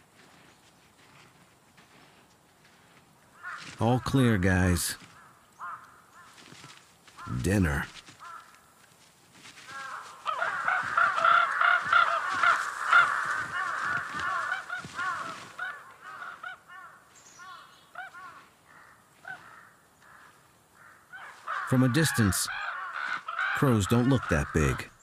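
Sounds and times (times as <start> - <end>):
crows cawing: 3.3 - 25.0.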